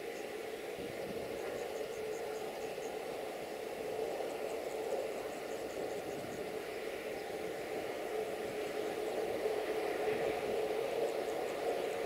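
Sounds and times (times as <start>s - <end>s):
train hum: 0.0s - 12.0s.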